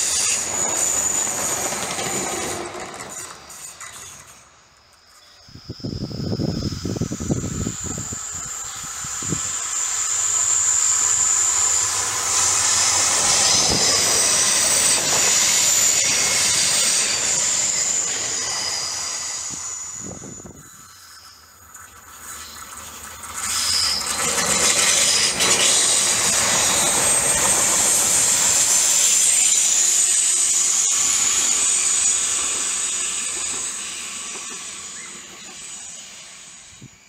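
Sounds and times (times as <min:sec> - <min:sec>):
high-pitched wheel squeal: 0:00.0 - 0:21.6, 0:22.2 - 0:37.0
train passing: 0:00.0 - 0:37.0.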